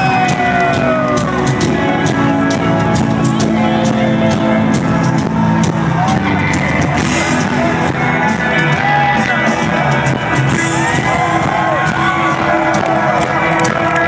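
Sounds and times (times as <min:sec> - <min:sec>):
crowd cheering and shouting: 0:00.0 - 0:14.0
loud distorted rock band: 0:00.0 - 0:14.0.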